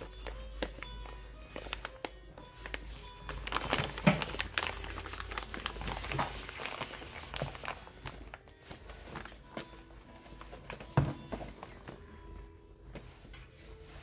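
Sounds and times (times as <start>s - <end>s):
fabric bag rustling: 0.0s - 14.0s.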